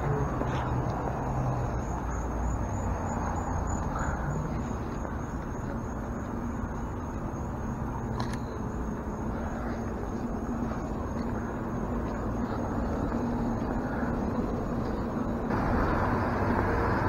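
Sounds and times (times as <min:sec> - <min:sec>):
high-pitched insect trill: 0:00.0 - 0:17.0
road traffic rumble: 0:00.0 - 0:17.0.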